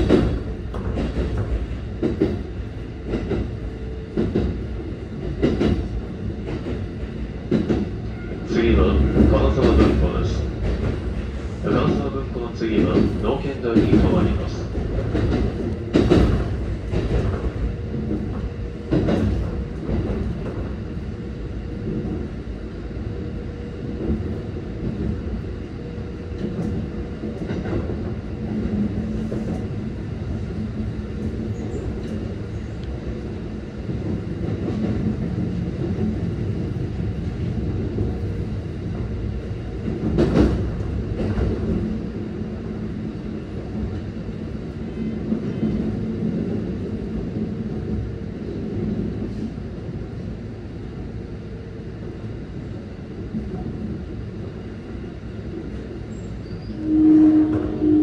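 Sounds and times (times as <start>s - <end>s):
train clatters: 0.0s - 51.0s, 52.0s - 58.0s
train wheels rumbling on rail: 0.0s - 58.0s.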